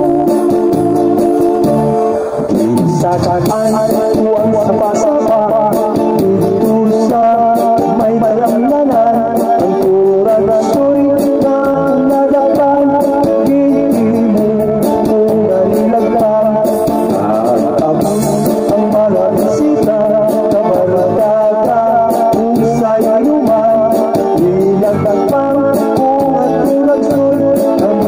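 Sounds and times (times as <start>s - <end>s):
backing music track: 0.0s - 28.0s
man singing into microphone: 0.0s - 28.0s.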